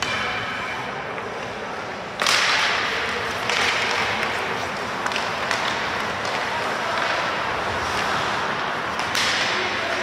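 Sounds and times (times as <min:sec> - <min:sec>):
skates scraping ice: 0:00.0 - 0:10.0.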